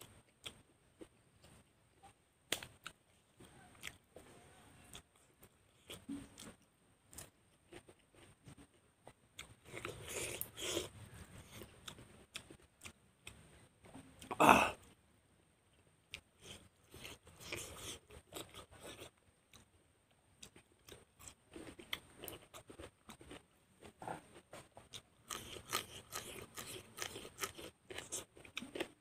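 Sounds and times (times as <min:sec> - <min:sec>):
person chewing and crunching food: 0:00.0 - 0:15.0, 0:15.6 - 0:29.0.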